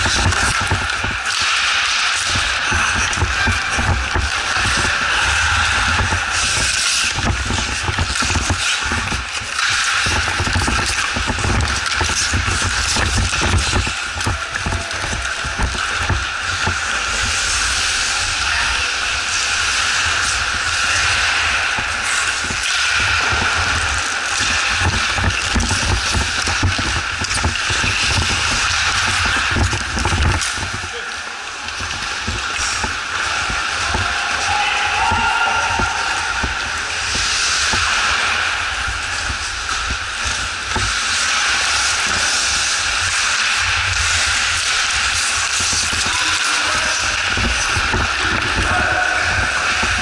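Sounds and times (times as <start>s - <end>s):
sharp clicks and knocks: 0.0s - 18.1s, 19.4s - 30.9s, 31.6s - 34.3s, 35.0s - 50.0s
rushing hall noise: 0.0s - 50.0s
skates scraping ice: 0.0s - 50.0s
sticks and puck clacking: 0.0s - 50.0s.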